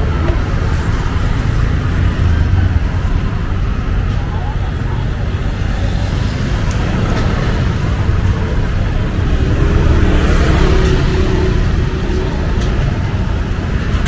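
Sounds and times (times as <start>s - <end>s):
traffic rumble: 0.0s - 14.0s
vehicle engine: 0.0s - 14.0s.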